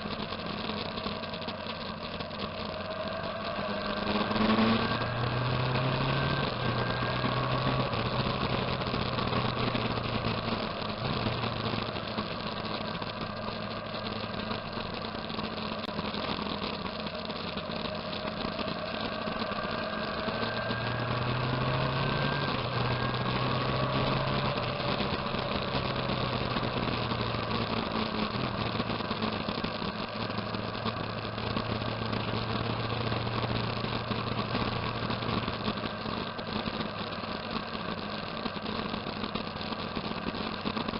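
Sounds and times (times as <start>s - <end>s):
constant rushing noise: 0.0s - 40.9s
motorcycle engine running: 0.0s - 40.9s.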